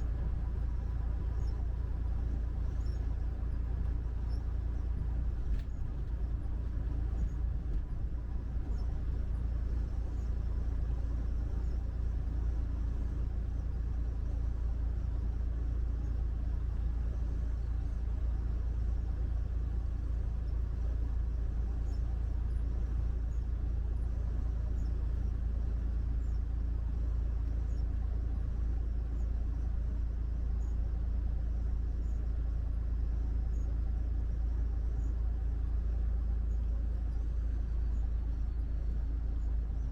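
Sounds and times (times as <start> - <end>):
truck rumbling on highway: 0.0 - 39.9.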